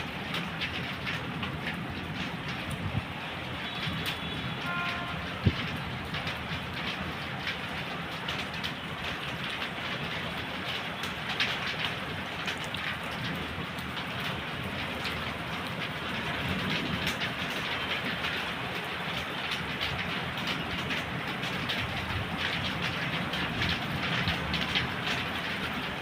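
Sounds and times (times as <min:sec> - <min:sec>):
rain drops ticking: 0:00.0 - 0:26.0
rain hiss: 0:00.0 - 0:26.0.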